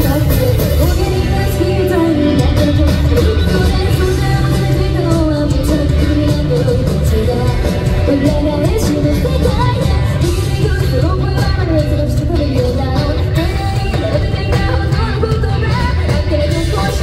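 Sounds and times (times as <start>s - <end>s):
live rock band: 0.0s - 17.0s
woman singing: 0.0s - 17.0s.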